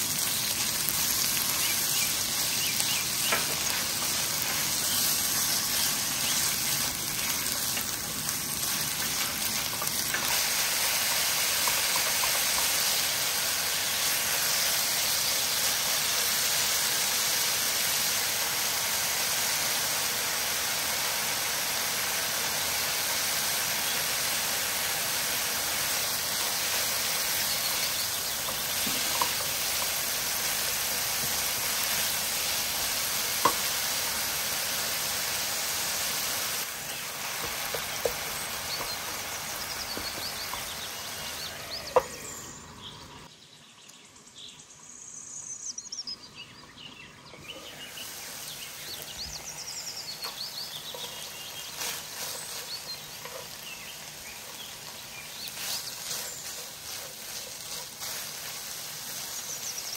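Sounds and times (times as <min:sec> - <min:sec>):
minced chicken sizzling in a pan: 0:00.0 - 0:42.8, 0:47.4 - 0:59.9.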